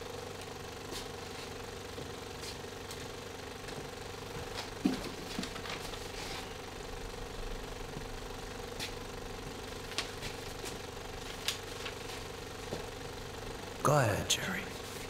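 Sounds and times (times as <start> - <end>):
film projector whirring: 0.0 - 13.9.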